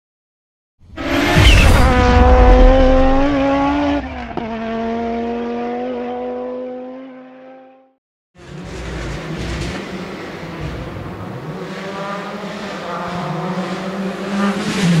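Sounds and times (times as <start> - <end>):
race car engine at high revs: 0.9 - 15.0.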